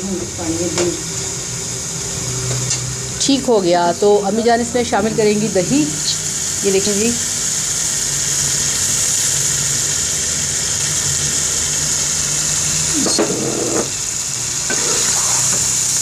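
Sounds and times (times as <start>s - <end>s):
high hiss of cooking: 0.0s - 16.0s
low hum of gas stove: 0.0s - 16.0s.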